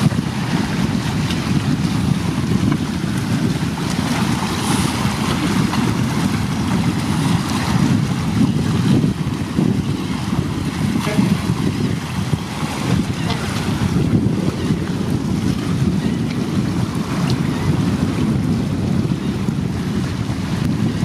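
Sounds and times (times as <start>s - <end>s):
waves lapping: 0.0s - 21.0s
wind buffeting microphone: 0.0s - 21.0s.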